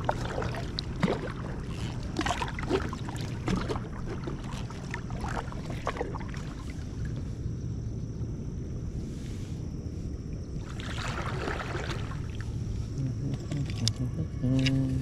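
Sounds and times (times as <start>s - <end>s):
water splashing around kayak: 0.0s - 7.8s, 8.8s - 13.9s
steady low rumble: 0.0s - 15.0s.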